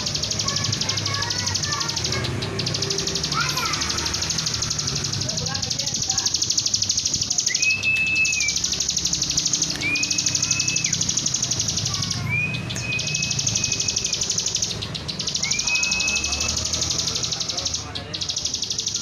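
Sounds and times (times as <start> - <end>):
bird whistling notes: 0.0 - 19.0
high-pitched pulsing chatter: 0.0 - 19.0.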